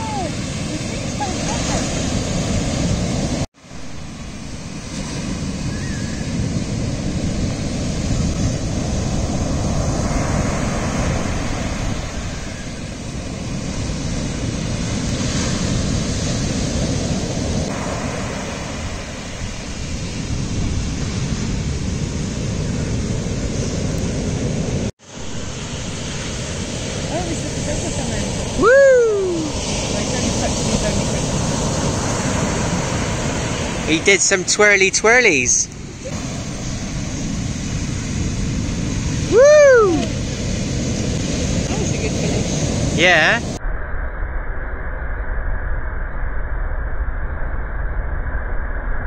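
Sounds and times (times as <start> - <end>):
waves breaking on beach: 0.0 - 43.6.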